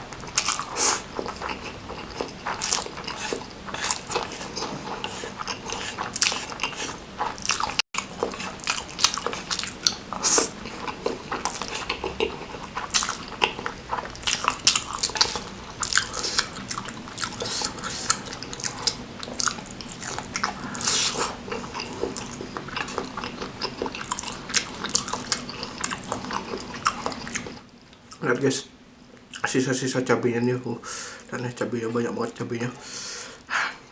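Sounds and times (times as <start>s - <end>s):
person chewing noodles: 0.0s - 28.2s.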